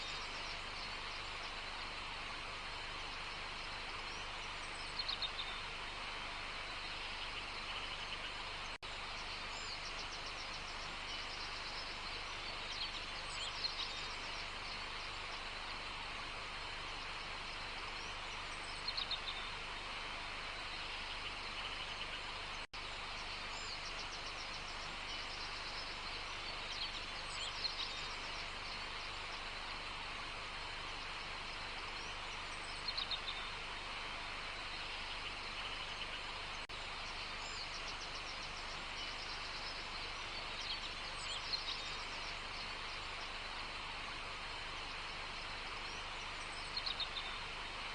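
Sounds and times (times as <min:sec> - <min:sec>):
background hiss: 0:00.0 - 0:47.9
birds chirping: 0:00.0 - 0:47.9.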